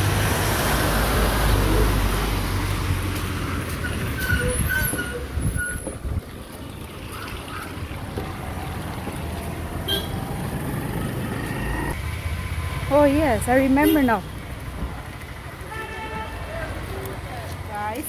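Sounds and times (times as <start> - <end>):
vehicle passing: 0.0 - 5.4, 6.2 - 15.7
traffic noise: 0.0 - 18.0.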